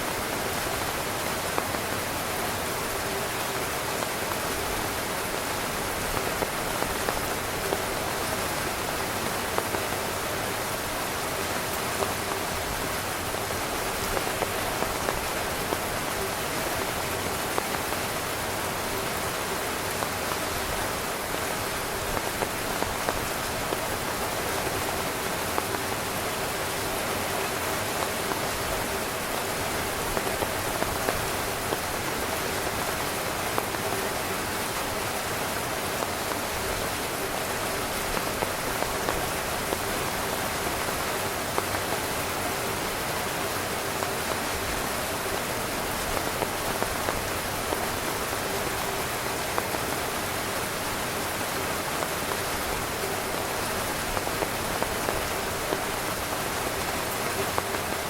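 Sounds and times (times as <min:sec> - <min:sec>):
rain on a tent: 0:00.0 - 0:58.0.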